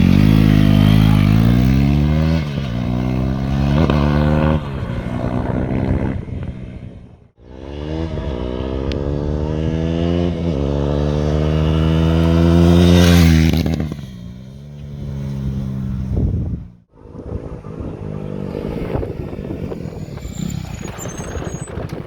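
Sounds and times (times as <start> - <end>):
motorcycle engine passing by: 0.0 - 21.9.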